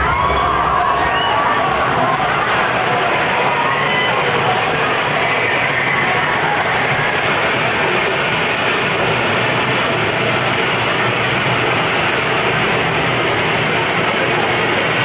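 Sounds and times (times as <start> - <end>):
steady rushing roar: 0.0 - 15.0.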